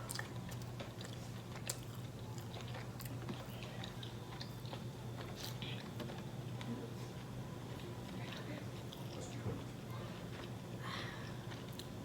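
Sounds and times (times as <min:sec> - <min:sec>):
person chewing: 0:00.0 - 0:07.9, 0:10.2 - 0:12.0
low steady hum: 0:00.0 - 0:12.0.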